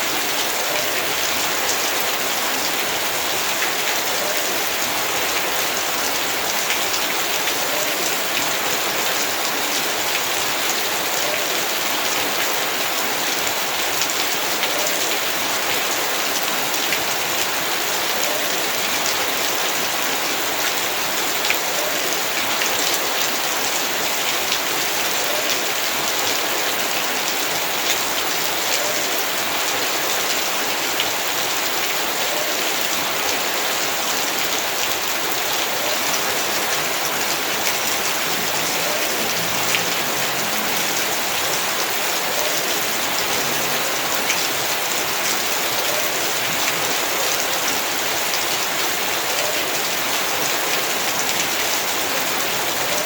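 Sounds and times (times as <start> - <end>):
heavy rain hissing: 0.0 - 53.0.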